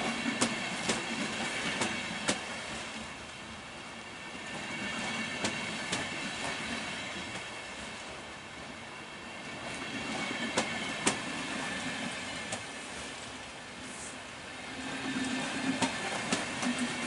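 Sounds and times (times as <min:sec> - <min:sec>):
train coaches rumbling past: 0:00.0 - 0:17.0.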